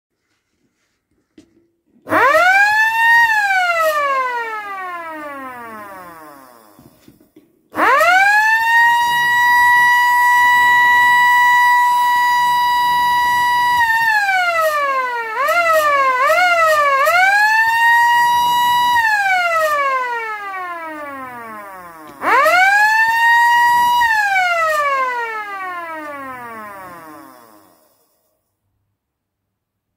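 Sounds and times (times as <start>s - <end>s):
electric motor siren wailing: 2.1s - 7.0s, 7.8s - 28.1s.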